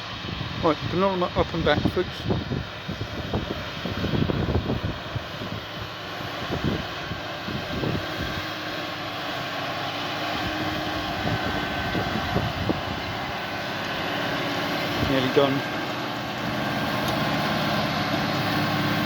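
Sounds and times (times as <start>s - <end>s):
distant tractor engine drone: 0.0s - 19.0s.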